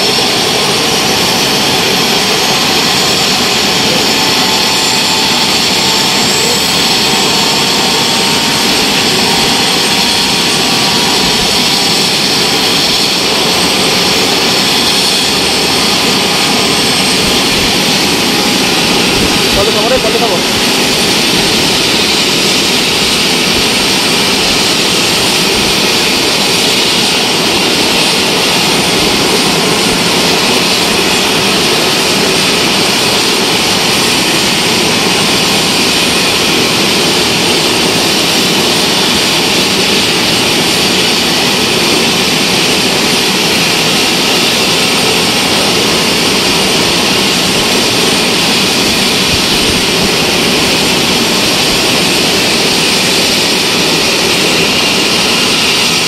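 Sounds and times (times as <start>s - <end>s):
helicopter turbine engines running: 0.0s - 56.0s.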